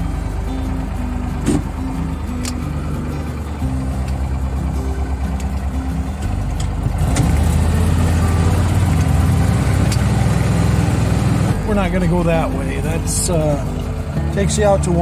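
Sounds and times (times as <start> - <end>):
vehicle engine driving: 0.0 - 15.0.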